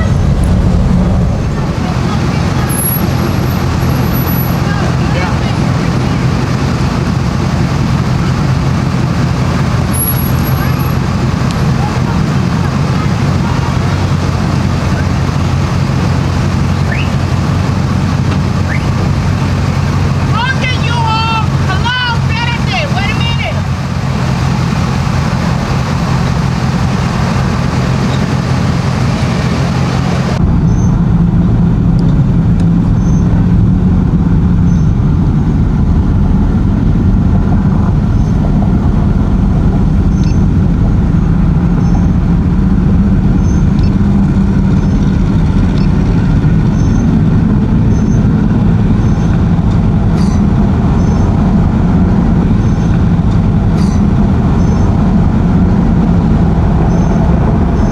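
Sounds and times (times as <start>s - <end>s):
boat engines rumbling: 0.0s - 57.9s.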